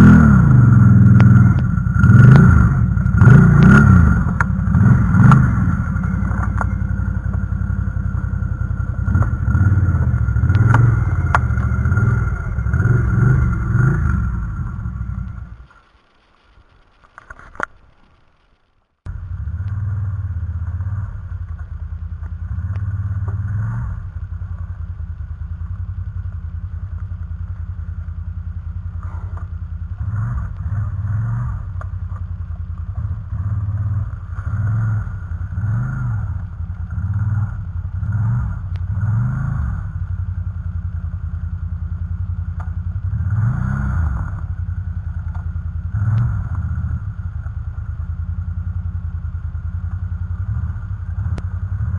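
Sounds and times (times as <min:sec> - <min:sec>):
atv engine revving: 0:00.0 - 0:15.7, 0:19.1 - 0:51.9.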